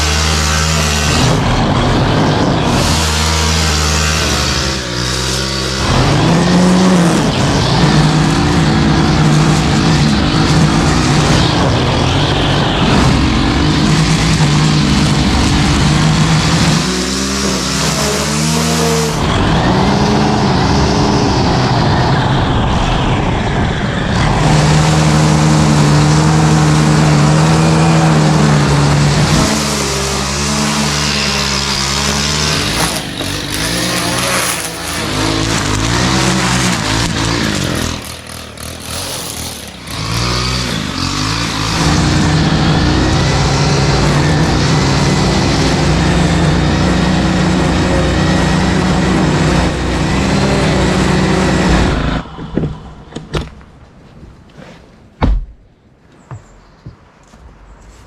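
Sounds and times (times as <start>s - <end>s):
small petrol engine at high revs: 0.0s - 52.2s.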